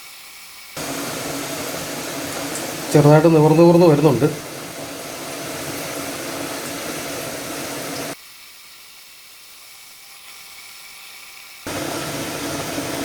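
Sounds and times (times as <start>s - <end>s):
water boiling hiss: 0.0s - 13.0s.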